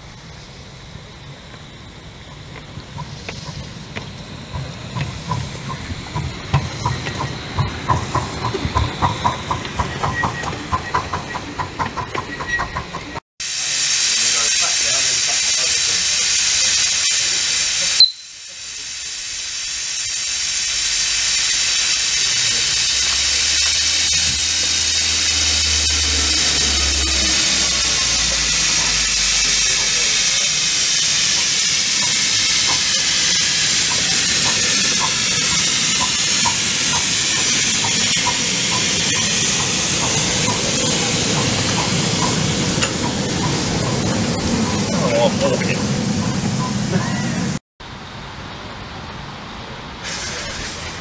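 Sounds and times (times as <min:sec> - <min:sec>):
steam hissing: 0:00.0 - 0:47.6, 0:48.9 - 0:51.0.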